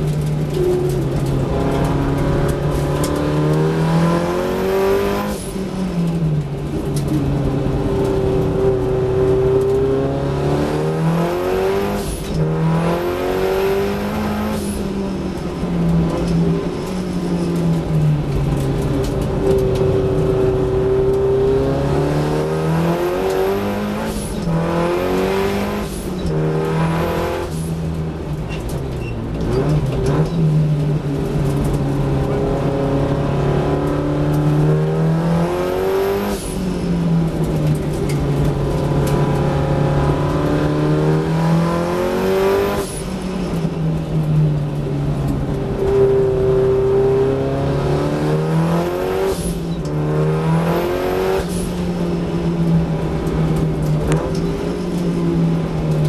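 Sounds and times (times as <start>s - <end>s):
race car engine revving: 0.0s - 28.5s, 29.3s - 44.2s, 44.8s - 55.9s.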